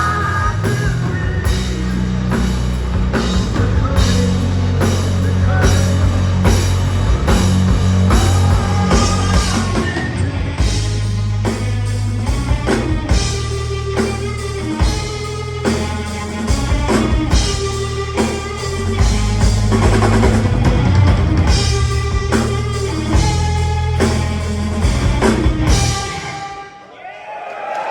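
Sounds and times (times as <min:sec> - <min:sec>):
pounding drum kit: 0:00.0 - 0:26.8
bass guitar: 0:00.0 - 0:26.9
electric guitar: 0:00.0 - 0:26.9
rock band playing: 0:00.0 - 0:26.9.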